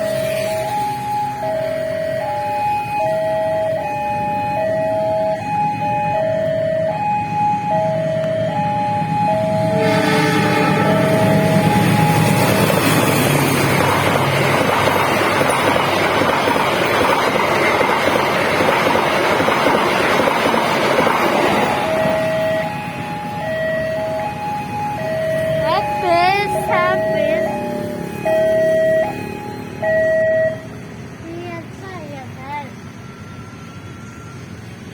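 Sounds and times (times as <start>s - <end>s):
crossing warning alarm: 0.0s - 34.9s
train wheels rumbling on rails: 3.6s - 34.9s.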